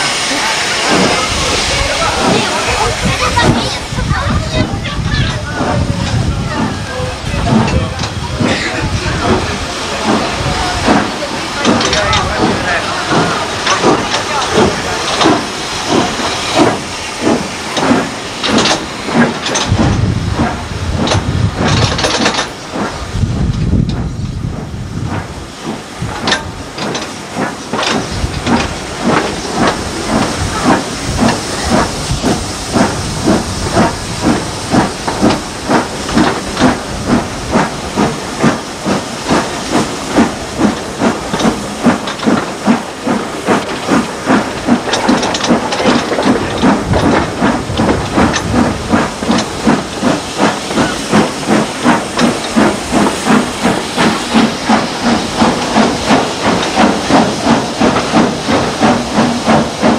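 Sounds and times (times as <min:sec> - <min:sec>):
hiss of steam: 0:00.0 - 0:59.9
steam locomotive exhaust beats: 0:00.0 - 0:59.9.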